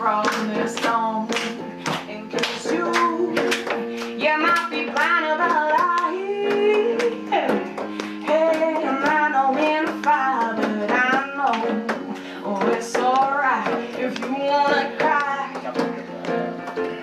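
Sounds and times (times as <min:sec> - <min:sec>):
woman singing slow song: 0:00.0 - 0:15.9
electric keyboard chords: 0:00.0 - 0:17.0.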